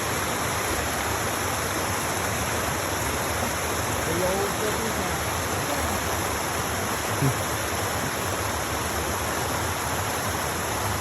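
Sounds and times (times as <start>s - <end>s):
water rushing through a spillway: 0.0s - 11.0s.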